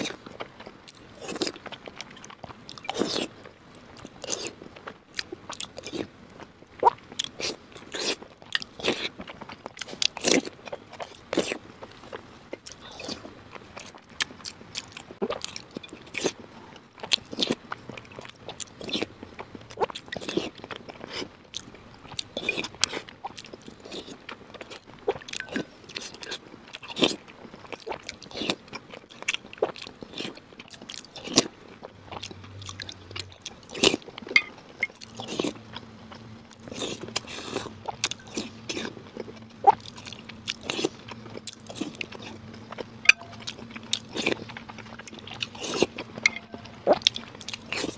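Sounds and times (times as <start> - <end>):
person chewing: 0.0 - 47.9.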